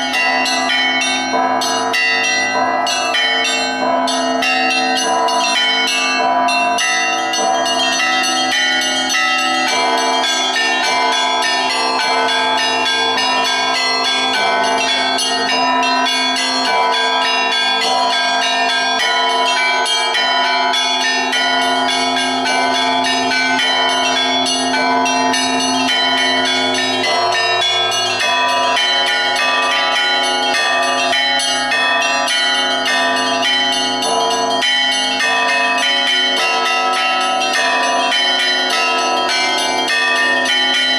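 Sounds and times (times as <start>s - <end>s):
large church bells ringing: 0.0s - 40.9s
small high church bells: 0.0s - 40.9s.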